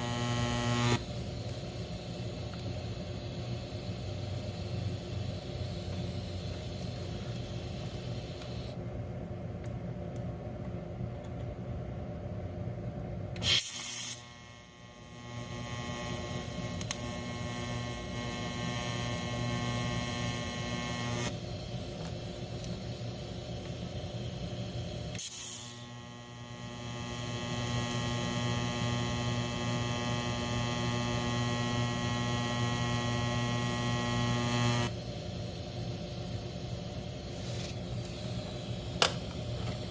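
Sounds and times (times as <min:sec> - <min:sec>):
welding arc buzzing: 0:00.0 - 0:08.8, 0:13.4 - 0:39.9.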